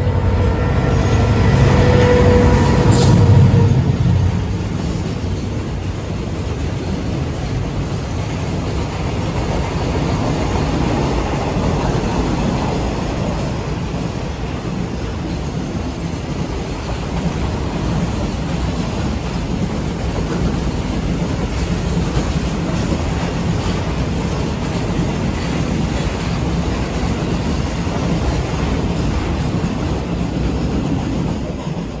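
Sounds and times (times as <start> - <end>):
train wheels rumbling on rails: 0.0 - 32.0
wheels clicking over rail joints: 4.7 - 32.0.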